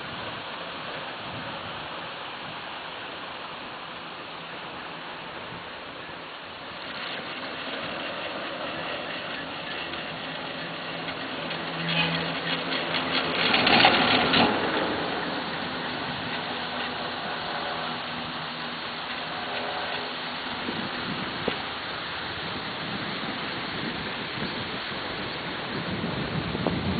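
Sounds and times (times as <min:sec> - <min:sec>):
wind noise: 0:00.0 - 0:02.8, 0:05.2 - 0:26.9
rapid rattling rumble: 0:00.0 - 0:26.9
chairlift rope running through rollers: 0:04.3 - 0:26.9.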